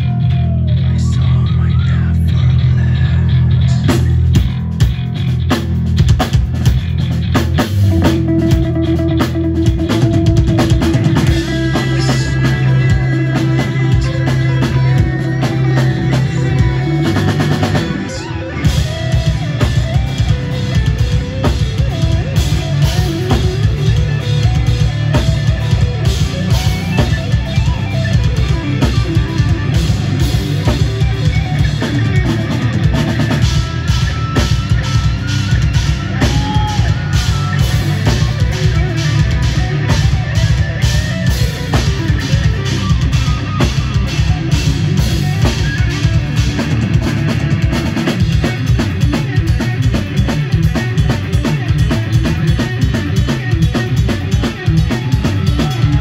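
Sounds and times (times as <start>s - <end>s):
bass guitar: 0.0s - 56.0s
drum kit playing: 0.0s - 56.0s
electric guitars: 0.0s - 56.0s.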